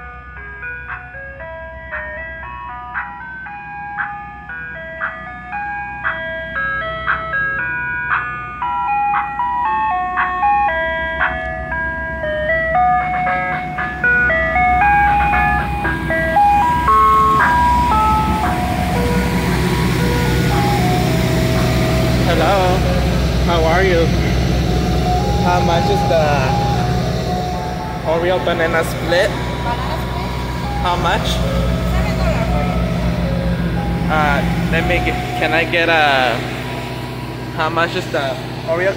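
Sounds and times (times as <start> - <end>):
ice cream truck chiming jingle: 0.0 - 38.9
truck engine rumble: 0.0 - 38.9.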